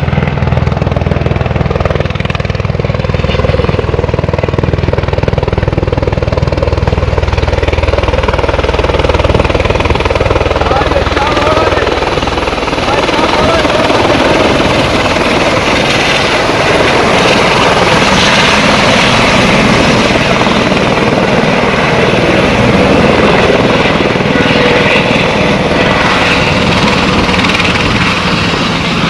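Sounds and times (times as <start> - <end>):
helicopter landing: 0.0 - 29.0.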